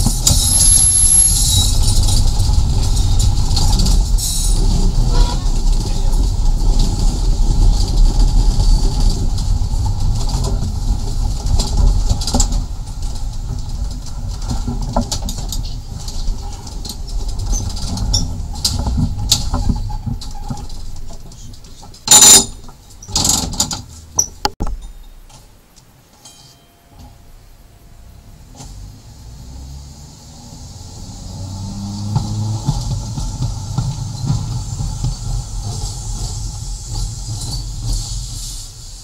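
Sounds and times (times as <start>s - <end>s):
tram wheels rumbling on rails: 0.0s - 24.5s, 27.0s - 39.0s.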